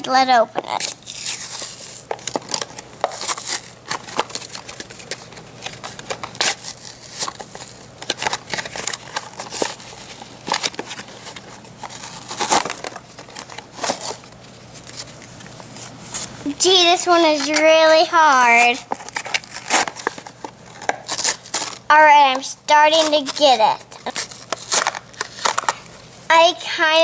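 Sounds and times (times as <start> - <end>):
packaging crinkling and crackling: 0.6 - 26.3.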